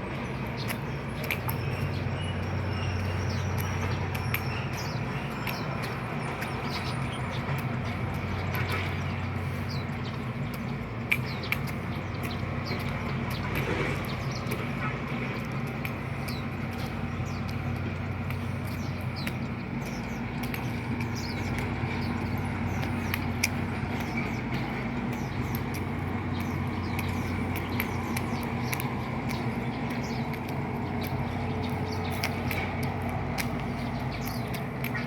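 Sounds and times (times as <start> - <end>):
engine humming steadily: 0.0 - 35.0
small birds chirping: 0.0 - 35.0.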